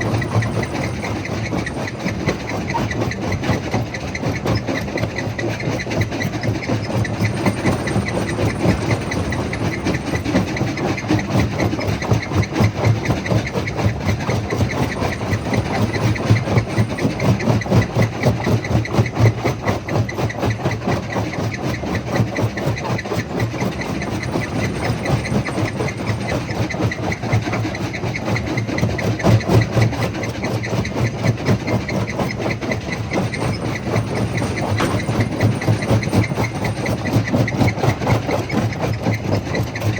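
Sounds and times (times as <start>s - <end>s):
jaw crusher pulsing and clattering: 0.0s - 39.9s.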